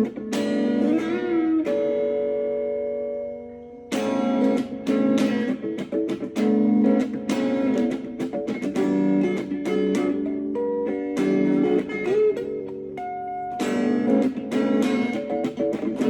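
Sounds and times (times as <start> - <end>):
plucked guitar: 0.0 - 16.0.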